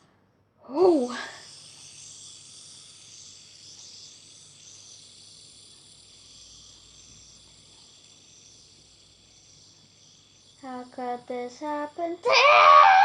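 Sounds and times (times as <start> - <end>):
fidget spinner whirring: 0.7 - 13.0.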